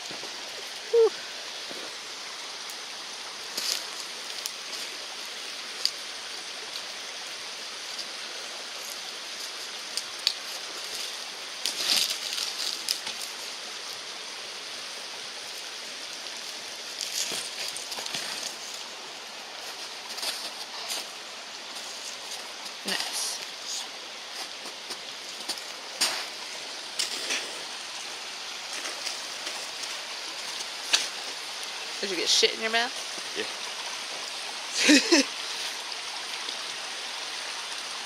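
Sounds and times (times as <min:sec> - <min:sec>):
stream rushing: 0:00.0 - 0:38.0.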